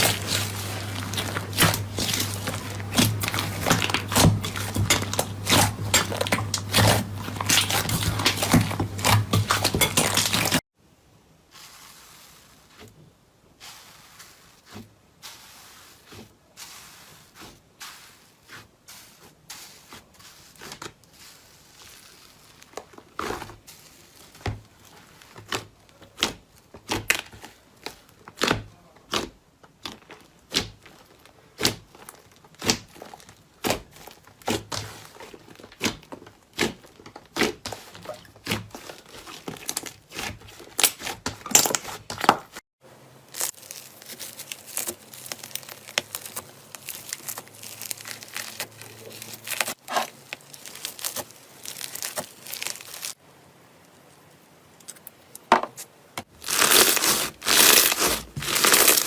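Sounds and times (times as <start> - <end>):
slime squishing by hand: 0.0 - 10.6, 11.5 - 42.6, 43.2 - 53.2, 56.2 - 59.0.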